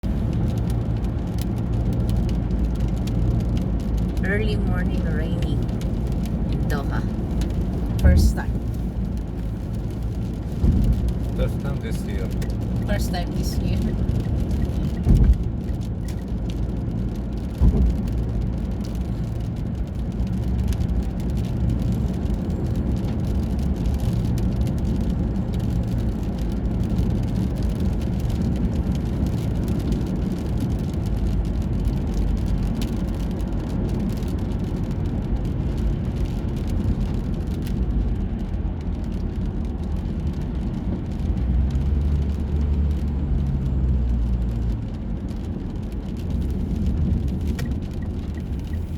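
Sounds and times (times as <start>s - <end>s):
low rumble of road traffic: 0.0s - 48.9s.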